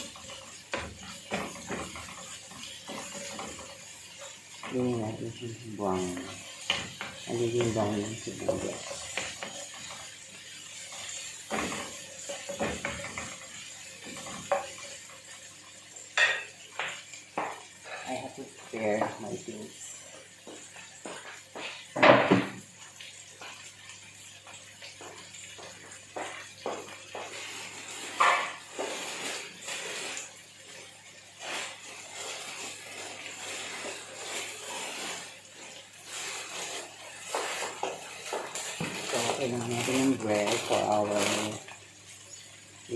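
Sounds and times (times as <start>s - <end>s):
utensil scraping frying pan: 0.0s - 22.0s, 24.4s - 41.8s
oil sizzling: 0.0s - 42.9s.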